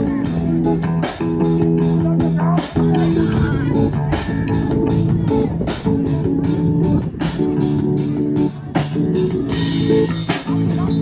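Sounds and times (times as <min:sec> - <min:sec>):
bass guitar: 0:00.0 - 0:11.0
guitar: 0:00.0 - 0:11.0
steady beat: 0:00.0 - 0:11.0.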